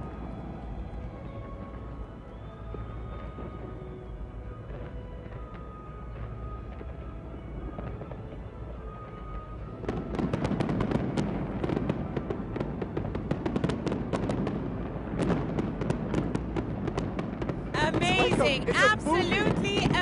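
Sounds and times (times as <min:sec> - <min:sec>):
fireworks crackling and banging: 0:00.0 - 0:20.0
music: 0:00.0 - 0:20.0.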